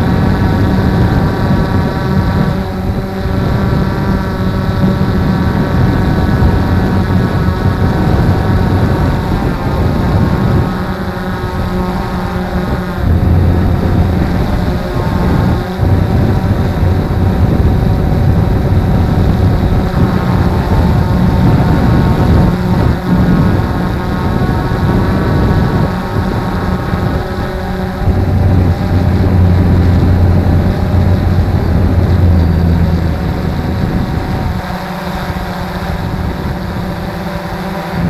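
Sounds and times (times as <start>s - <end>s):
wind rumble: 0.0s - 37.2s
drone propellers whining: 0.0s - 38.0s.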